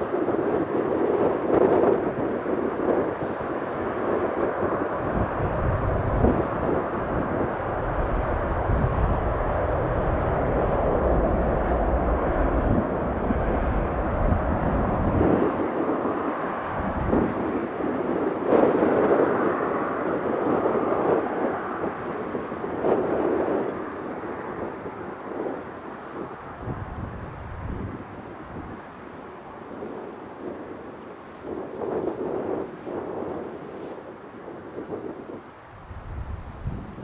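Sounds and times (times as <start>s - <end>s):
aircraft engines rushing: 0.0s - 37.0s
wind buffeting microphone: 0.0s - 37.0s.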